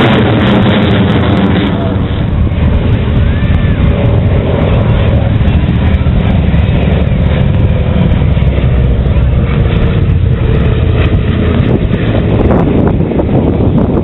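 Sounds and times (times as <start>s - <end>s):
aircraft engine noise: 0.0s - 14.0s
faint tones sinking in pitch: 0.0s - 14.0s.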